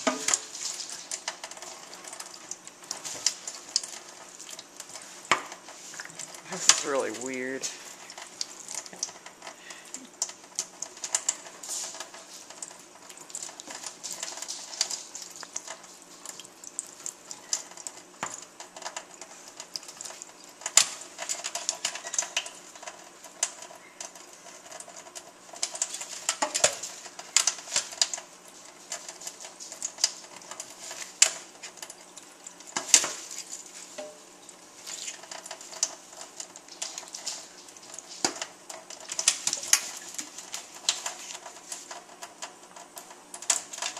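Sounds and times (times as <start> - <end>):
tap water running into sink: 0.0 - 43.9.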